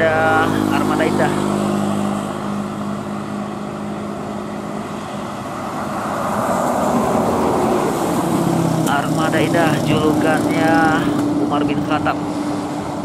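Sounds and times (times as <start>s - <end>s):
bus engine driving past: 0.0s - 13.0s.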